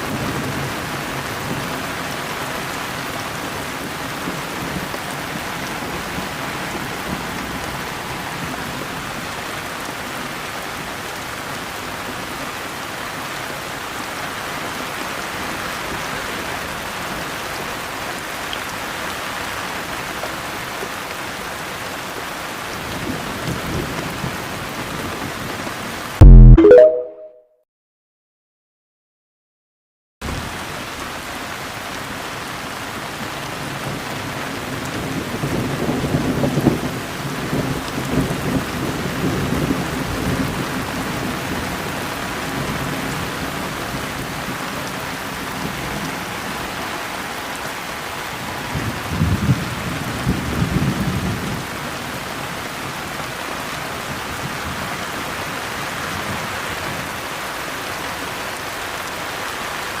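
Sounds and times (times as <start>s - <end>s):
steady rain: 0.0s - 26.2s, 30.2s - 60.0s.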